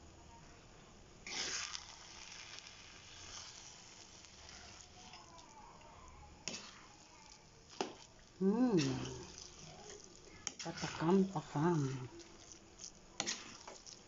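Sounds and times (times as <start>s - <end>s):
metal spatula stirring: 1.2s - 14.0s
rice sizzling in a pan: 1.2s - 14.0s.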